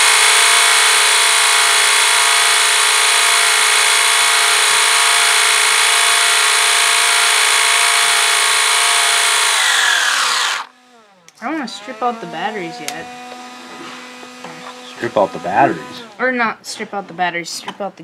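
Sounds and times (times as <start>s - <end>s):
electric motor whine: 0.0s - 16.2s.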